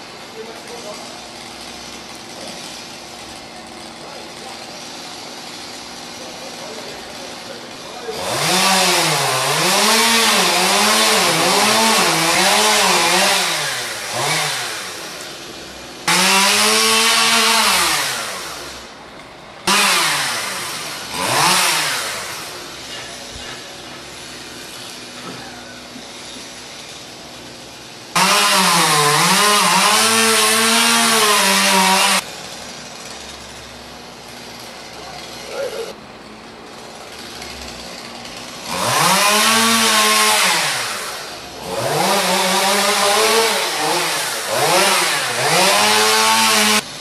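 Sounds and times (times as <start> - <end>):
chainsaw cutting logs: 0.0 - 47.0
chainsaw idling: 0.0 - 47.0.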